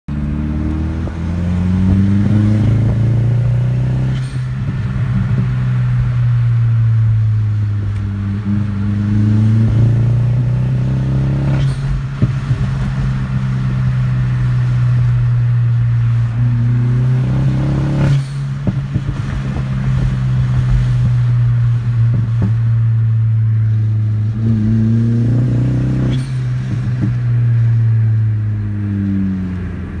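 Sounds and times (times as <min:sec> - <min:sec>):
car engine droning under load: 0:00.1 - 0:30.0.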